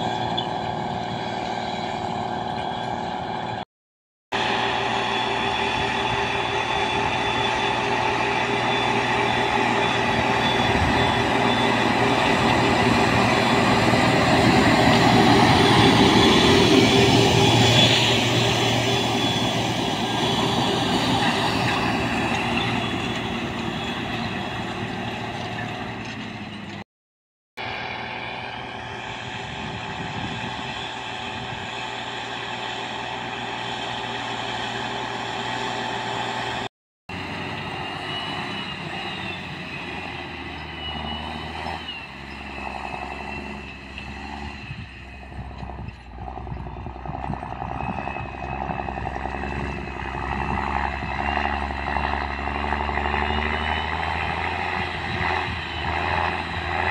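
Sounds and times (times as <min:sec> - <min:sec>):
tractor diesel engine working: 0:00.0 - 0:03.6, 0:04.3 - 0:26.8, 0:27.6 - 0:56.9.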